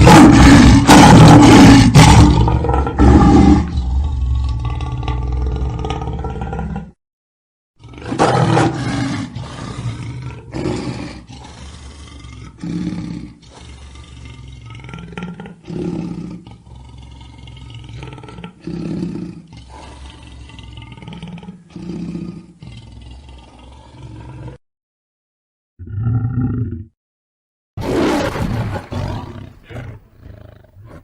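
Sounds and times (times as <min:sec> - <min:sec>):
lion roaring: 0:00.0 - 0:07.0, 0:07.8 - 0:24.6, 0:25.8 - 0:26.9, 0:27.8 - 0:31.0.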